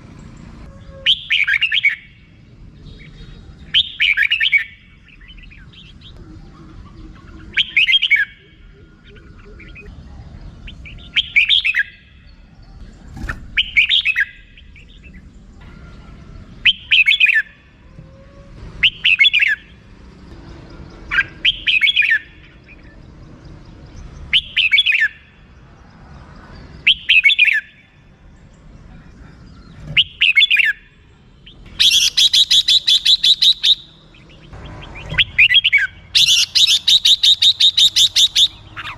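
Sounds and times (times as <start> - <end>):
bird calling bright phrases: 0.2 - 12.8, 13.4 - 20.0, 20.9 - 23.0, 24.0 - 25.6, 26.8 - 28.0, 29.2 - 38.9.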